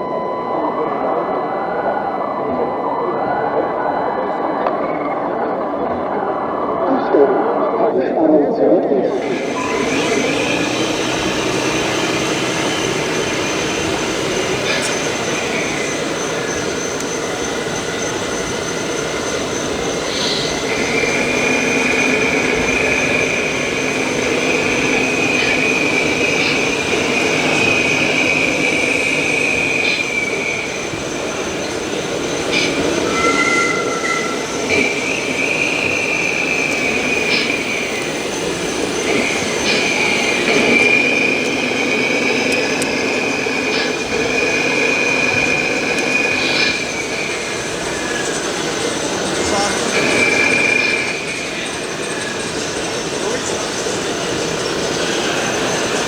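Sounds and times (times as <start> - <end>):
steady background noise: 9.0 - 56.0
electric motors whining: 9.1 - 56.0.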